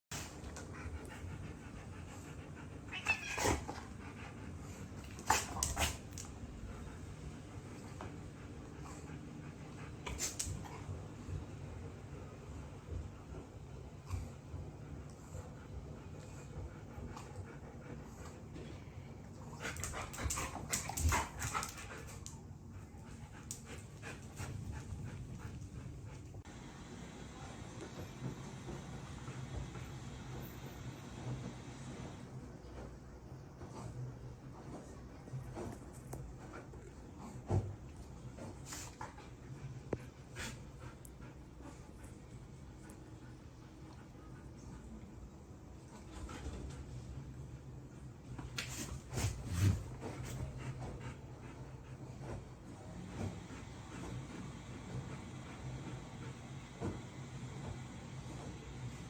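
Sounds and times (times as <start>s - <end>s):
dog panting: 0.1s - 26.5s, 34.7s - 47.1s, 48.8s - 59.0s.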